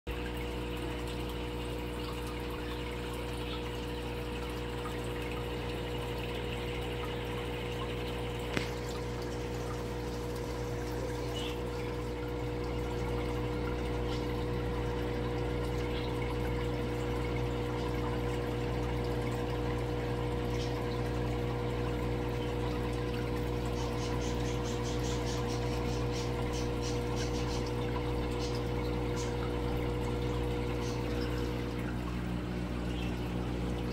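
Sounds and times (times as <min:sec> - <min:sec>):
aquarium filter bubbling: 0:00.1 - 0:33.9
constant hum: 0:00.1 - 0:33.9.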